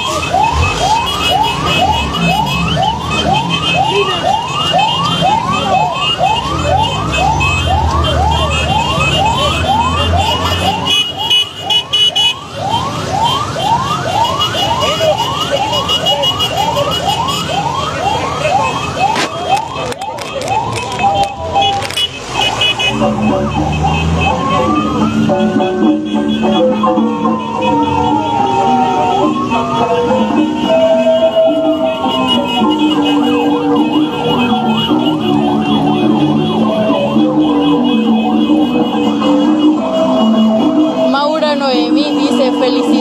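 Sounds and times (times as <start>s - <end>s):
vehicle siren yelping: 0.0s - 43.0s.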